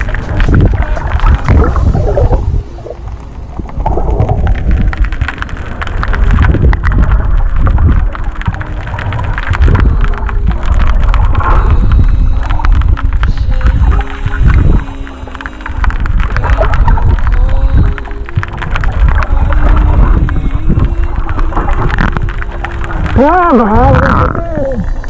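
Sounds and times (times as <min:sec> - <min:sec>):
muffled underwater water rumble: 0:00.0 - 0:25.0
underwater crackling and clicking: 0:00.0 - 0:25.0.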